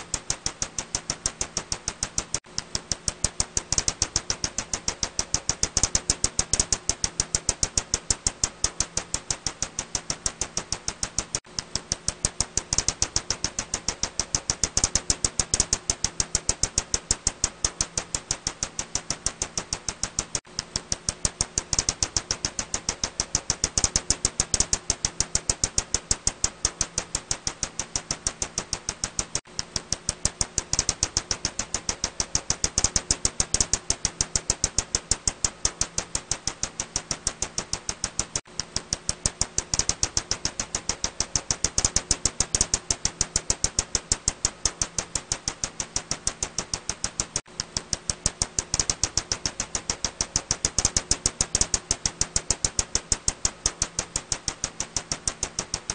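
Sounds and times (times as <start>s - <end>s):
bat echolocation clicks: 0.0s - 55.9s
faint steady hum: 0.0s - 55.9s.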